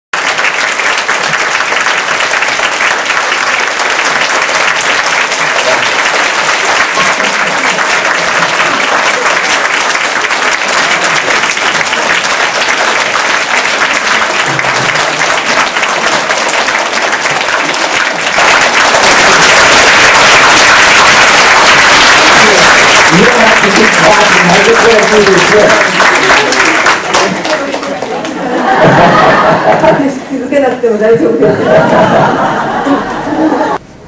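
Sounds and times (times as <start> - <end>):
audience applauding: 0.2 - 29.8.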